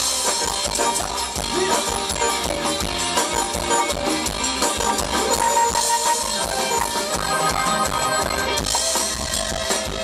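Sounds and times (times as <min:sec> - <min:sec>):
live band playing upbeat dance music: 0:00.0 - 0:10.0.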